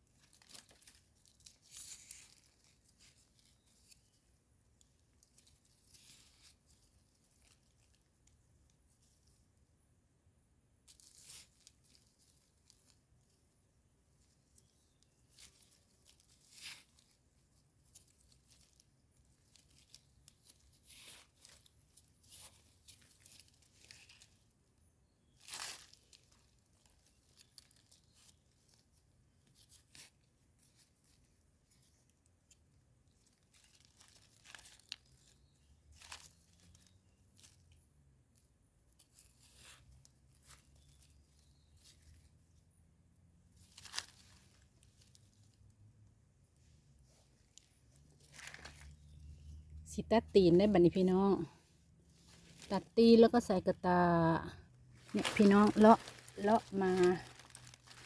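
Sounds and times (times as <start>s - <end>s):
rustling and tearing: 0.0s - 9.6s, 10.8s - 45.8s, 46.5s - 49.7s, 50.7s - 58.0s.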